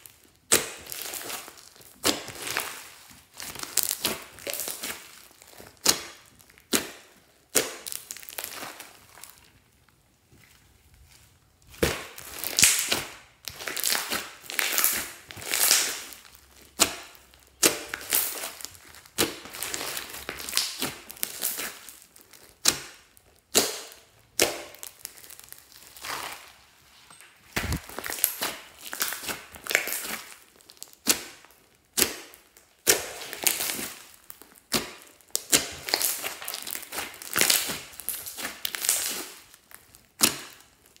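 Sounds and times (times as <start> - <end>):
hands squishing slime: 0.0 - 41.0.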